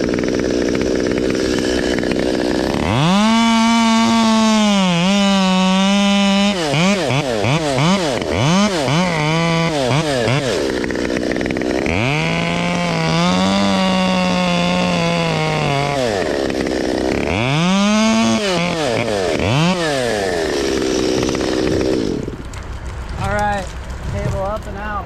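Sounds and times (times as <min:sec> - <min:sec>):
chainsaw revving and cutting: 0:00.0 - 0:22.5.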